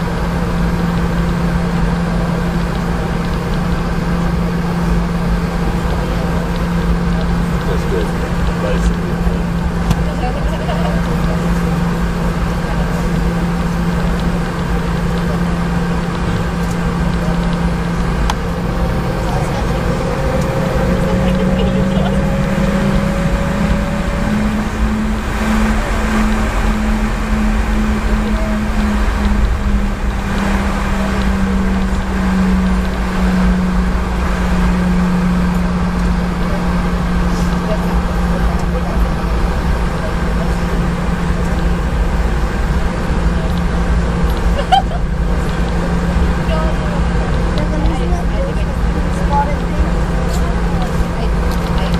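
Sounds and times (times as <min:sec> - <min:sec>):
airplane cabin rushing drone: 0:00.0 - 0:51.9
constant low hum: 0:00.0 - 0:51.9.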